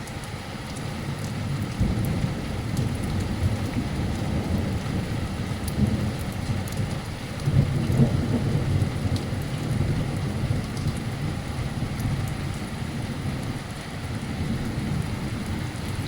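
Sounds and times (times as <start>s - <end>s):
heavy rain pouring: 0.0s - 16.0s
thunder rumbling: 1.2s - 16.0s.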